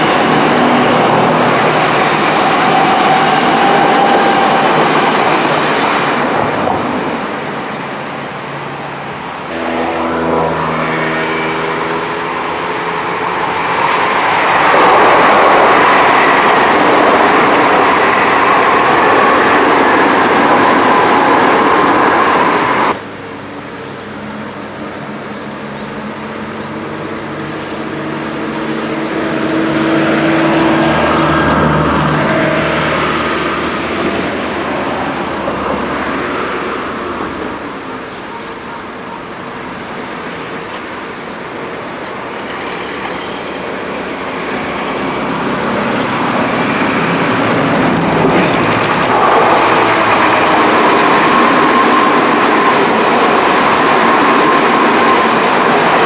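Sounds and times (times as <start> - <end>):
train motor hum: 0.0 - 38.0, 38.8 - 56.0
train wheels roaring on rails: 0.0 - 56.0.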